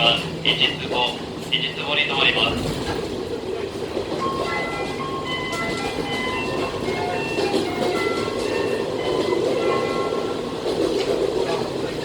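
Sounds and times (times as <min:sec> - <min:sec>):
train engine and wheels rumbling: 0:00.0 - 0:12.0.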